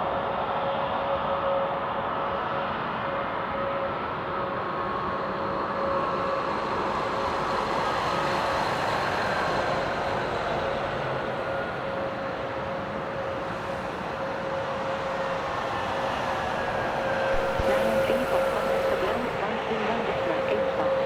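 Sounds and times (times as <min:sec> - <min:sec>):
jet engines whining and roaring: 0:00.1 - 0:21.0.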